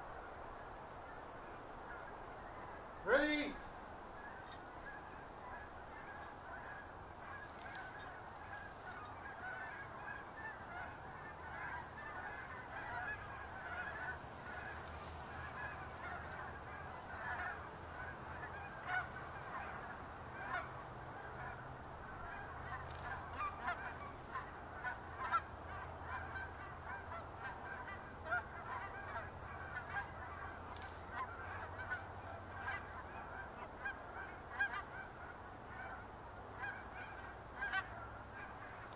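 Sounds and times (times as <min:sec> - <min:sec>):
geese honking: 0:01.0 - 0:38.9.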